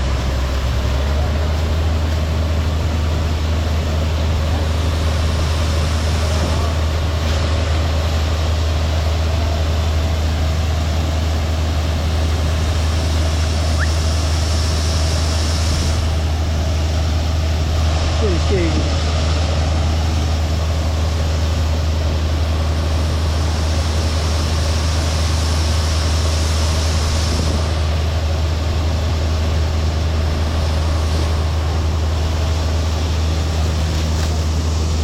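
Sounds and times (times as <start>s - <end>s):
diesel engine humming: 0.0s - 35.0s
machinery noise: 0.0s - 35.0s.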